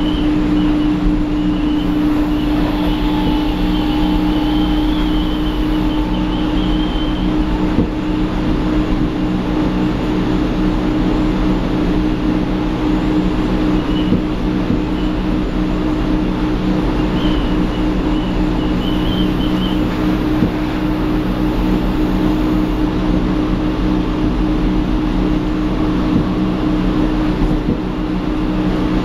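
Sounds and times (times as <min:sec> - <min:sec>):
electric train running noise: 0:00.0 - 0:29.0.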